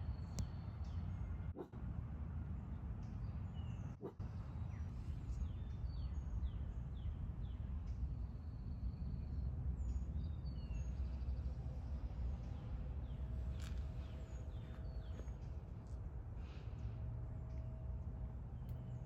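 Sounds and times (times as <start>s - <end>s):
songbirds chirping: 0.0s - 1.7s, 2.3s - 19.0s.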